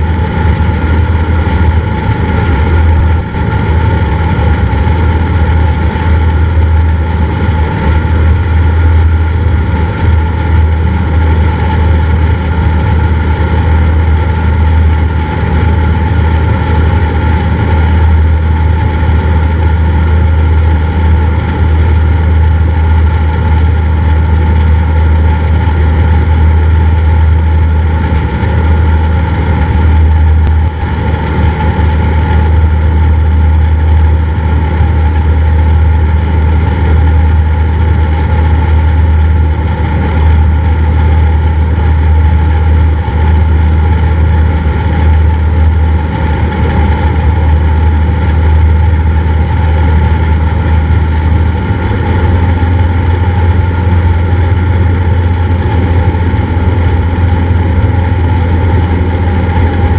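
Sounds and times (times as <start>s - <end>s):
plane engine and propeller drone: 0.0s - 59.9s.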